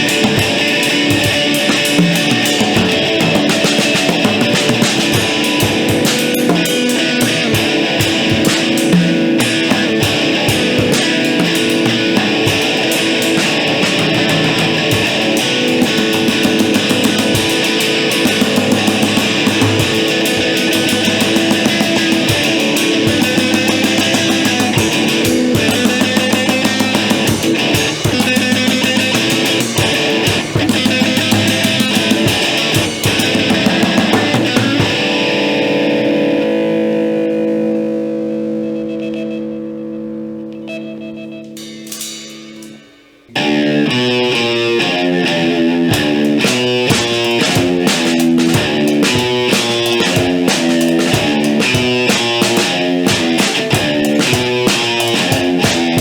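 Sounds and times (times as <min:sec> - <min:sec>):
drum kit beating: 0:00.0 - 0:35.5, 0:41.5 - 0:43.3, 0:45.8 - 0:56.0
rock band playing live: 0:00.0 - 0:37.8, 0:41.5 - 0:56.0
electric guitar: 0:00.0 - 0:56.0.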